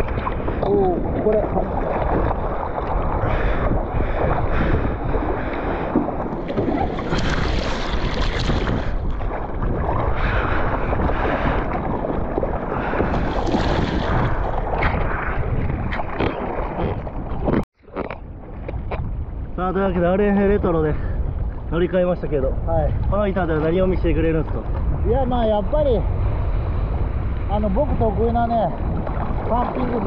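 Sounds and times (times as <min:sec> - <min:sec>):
splashing surf: 0:00.0 - 0:17.5, 0:23.0 - 0:30.0
wind on microphone: 0:00.0 - 0:30.0.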